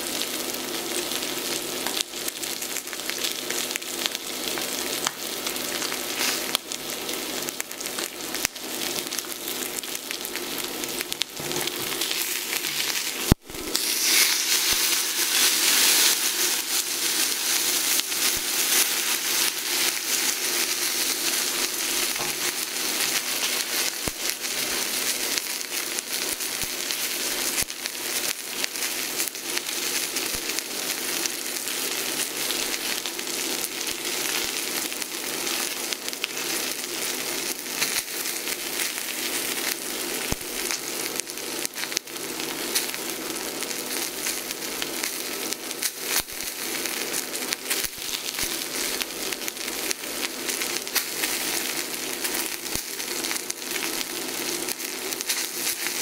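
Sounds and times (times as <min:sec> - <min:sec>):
steak sizzling in a skillet: 0:00.2 - 0:56.0.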